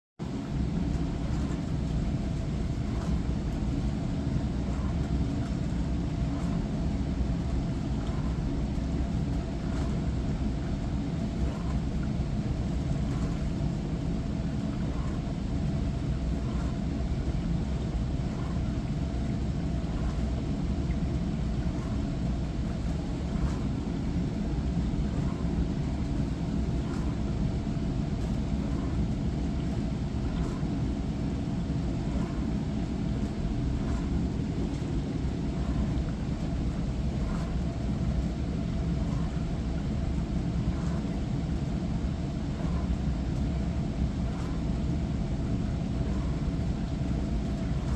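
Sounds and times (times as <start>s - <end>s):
dishwasher pump rumble: 0.2s - 47.9s.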